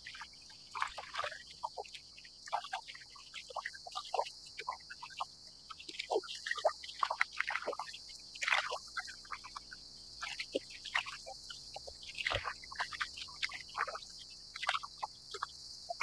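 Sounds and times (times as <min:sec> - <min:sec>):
cicadas hissing: 0:00.0 - 0:16.0
small waves lapping against hull: 0:00.0 - 0:16.0.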